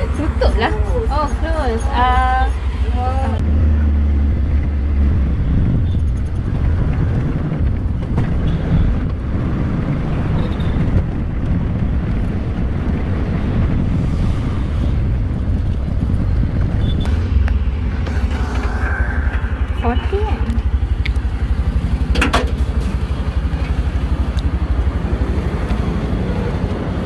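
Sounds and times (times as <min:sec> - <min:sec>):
road noise: 0:00.0 - 0:27.0
small engine rumbling: 0:00.0 - 0:27.0.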